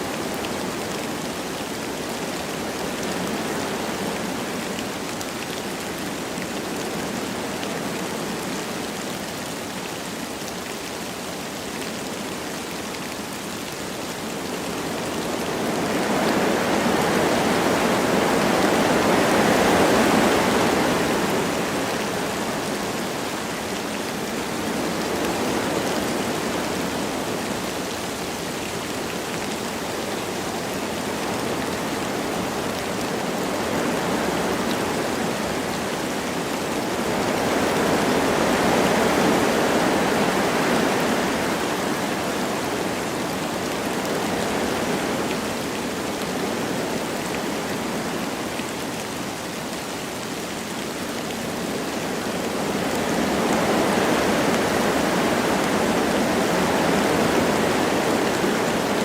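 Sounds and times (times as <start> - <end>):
light rain falling: 0.0 - 59.0
wind through trees: 0.0 - 59.0.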